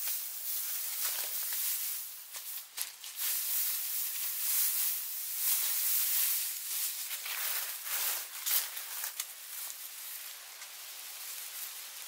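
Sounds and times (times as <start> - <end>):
dry straw rustling: 0.0 - 12.0
straw crackles: 0.0 - 12.0.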